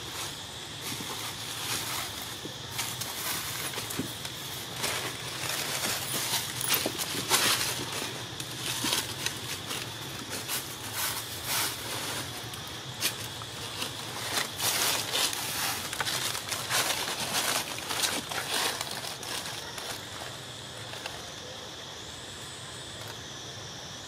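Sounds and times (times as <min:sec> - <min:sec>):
dry leaves rustling and crackling: 0:00.0 - 0:21.6.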